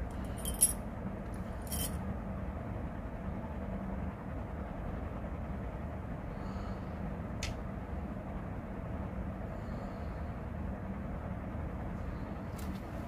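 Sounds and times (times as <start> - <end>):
hum: 0.0 - 13.0
low background rumble: 0.0 - 13.0.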